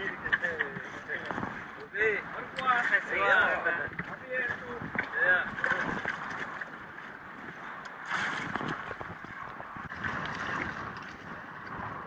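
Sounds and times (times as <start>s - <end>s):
sea water splashing around boat: 0.0s - 12.0s
wind on microphone: 0.0s - 12.0s.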